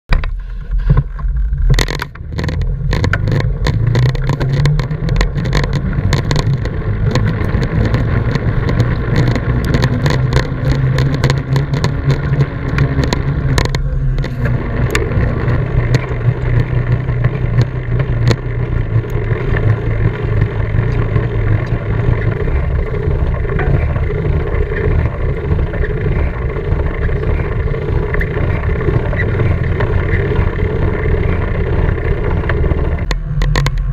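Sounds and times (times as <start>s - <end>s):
bike rattling: 0.1s - 33.9s
tyres rumbling on road: 0.1s - 33.9s
wind buffeting microphone: 0.8s - 33.9s.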